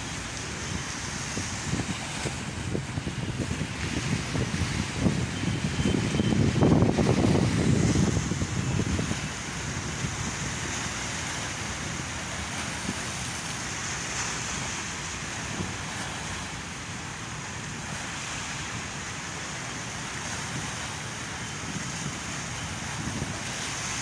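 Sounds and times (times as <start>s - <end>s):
surf washing on rocky shore: 0.0s - 24.0s
wind rumbling on microphone: 0.0s - 24.0s.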